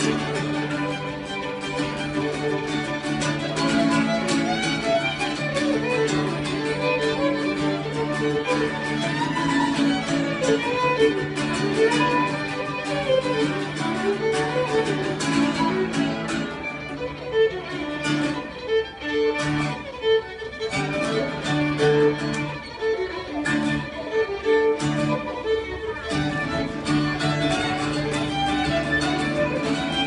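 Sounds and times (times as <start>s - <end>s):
strummed acoustic guitar: 0.0s - 30.0s
violin melody: 0.0s - 30.0s.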